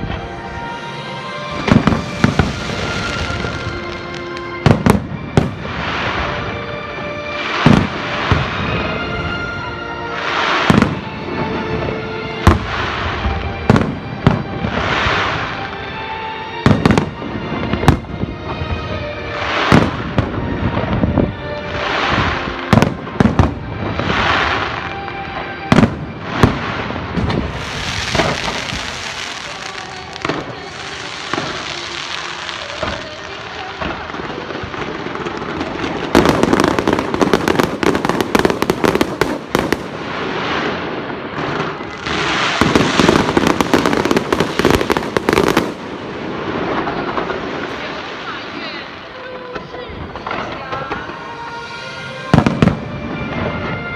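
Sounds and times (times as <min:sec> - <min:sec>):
fireworks bursting bangs: 0:00.0 - 0:15.9, 0:16.6 - 0:53.9
fireworks hissing and crackling: 0:00.0 - 0:53.9
music: 0:00.0 - 0:53.9.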